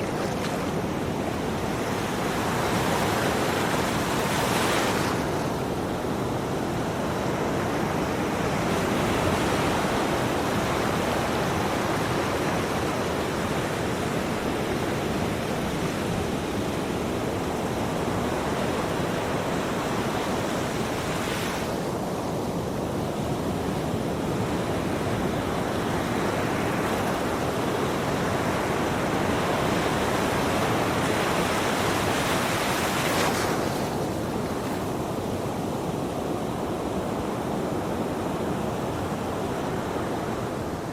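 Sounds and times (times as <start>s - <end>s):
ocean waves washing: 0.0s - 40.9s.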